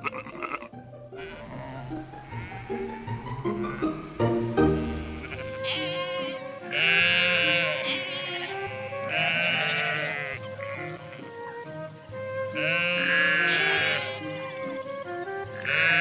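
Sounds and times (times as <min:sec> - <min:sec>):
sheep bleating: 0:00.0 - 0:11.3, 0:12.6 - 0:14.6, 0:15.6 - 0:16.0
background music: 0:00.0 - 0:16.0.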